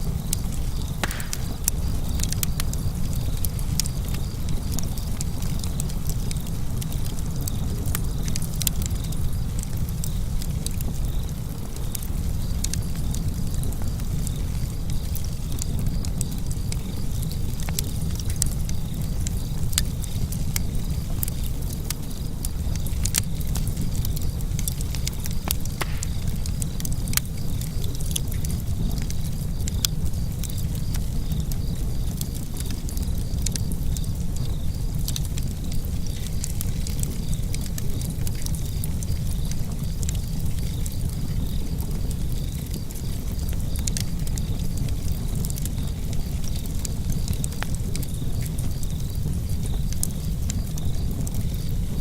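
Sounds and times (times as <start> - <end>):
fire rumbling in fireplace: 0.0 - 52.0
logs crackling and popping: 0.0 - 52.0.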